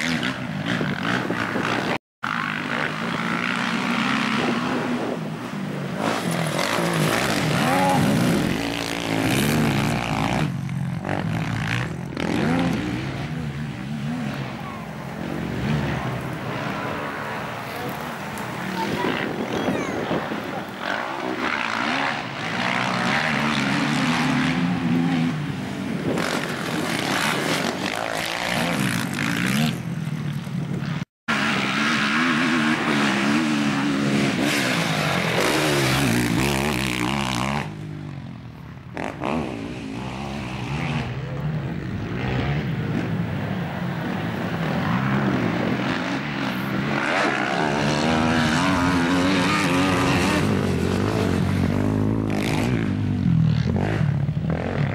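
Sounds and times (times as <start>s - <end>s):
quad bike engines revving: 0.0s - 54.9s.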